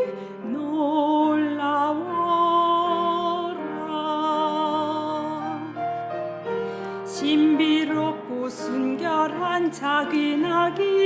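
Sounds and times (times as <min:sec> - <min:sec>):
musical accompaniment: 0:00.0 - 0:11.0.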